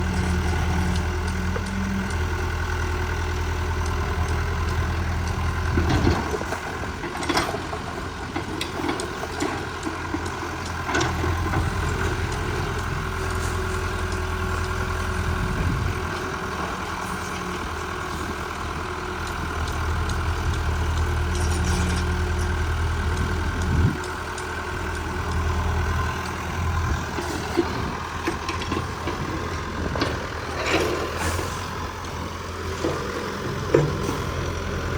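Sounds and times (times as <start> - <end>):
excavator engine running: 0.0 - 34.9.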